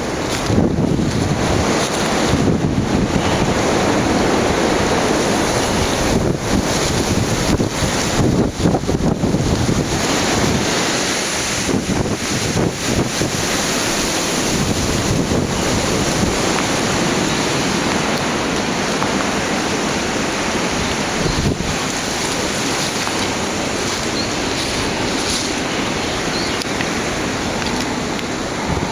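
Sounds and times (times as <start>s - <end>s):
stream water flowing: 0.0s - 28.9s.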